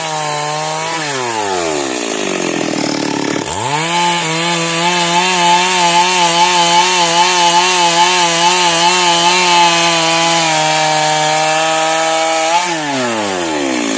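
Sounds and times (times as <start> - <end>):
chainsaw cutting through wood: 0.0 - 13.9.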